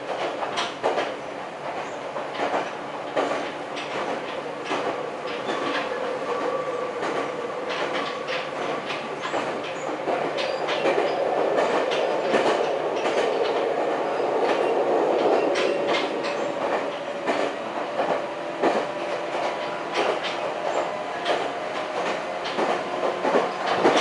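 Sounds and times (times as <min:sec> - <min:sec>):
train wheels rumbling on track: 0:00.0 - 0:24.0
wheels clicking over rail joints: 0:00.1 - 0:06.4, 0:07.0 - 0:24.0.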